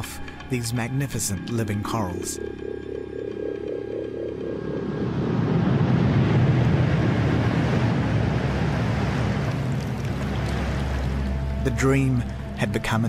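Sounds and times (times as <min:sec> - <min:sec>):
underwater rushing water: 0:02.4 - 0:13.0.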